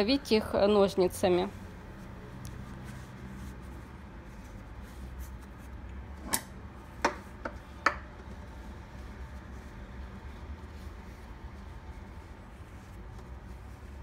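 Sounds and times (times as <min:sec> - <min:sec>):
papery rubbing of flatbread: 0:00.0 - 0:14.0.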